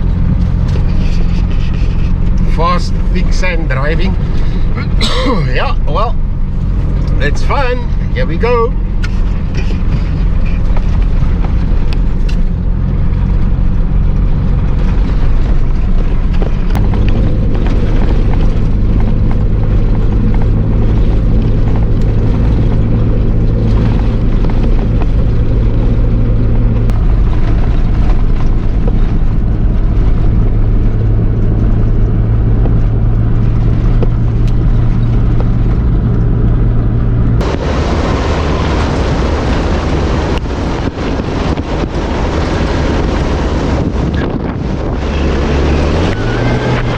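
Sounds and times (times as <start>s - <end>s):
broad rushing noise: 0.0s - 46.9s
engine pulling hard: 0.0s - 46.9s.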